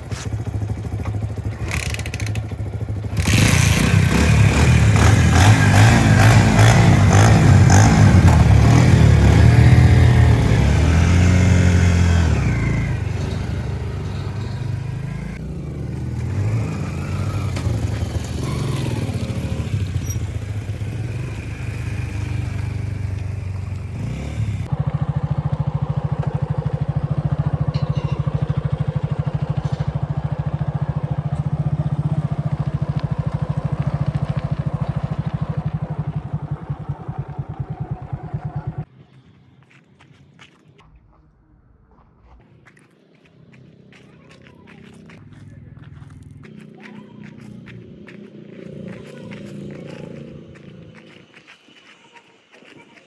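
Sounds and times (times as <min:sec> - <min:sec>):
diesel engine revving: 0:00.0 - 0:38.9, 0:43.6 - 0:52.8.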